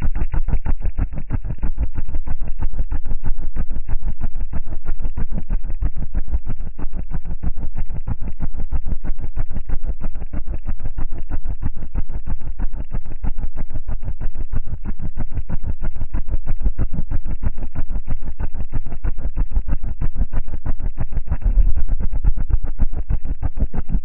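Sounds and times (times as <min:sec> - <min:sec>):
subwoofer playing deep bass: 0:00.0 - 0:24.0.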